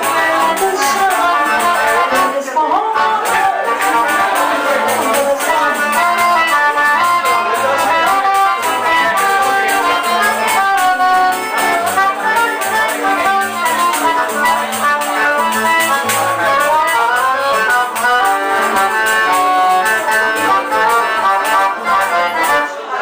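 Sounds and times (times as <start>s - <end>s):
drum and percussion beat: 0.0s - 2.4s, 3.2s - 20.8s
accordion melody: 0.0s - 23.0s
guitar: 0.0s - 23.0s.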